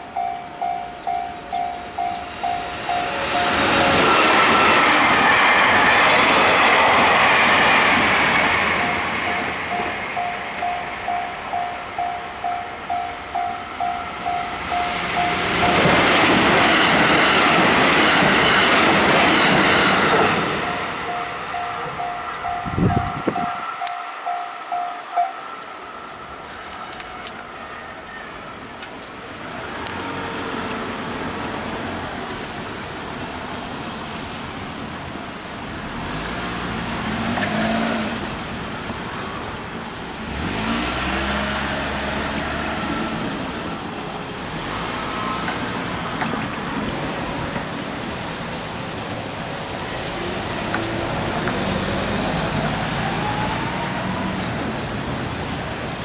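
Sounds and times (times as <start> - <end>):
cars and trucks driving past: 0.0 - 32.6, 35.8 - 56.0.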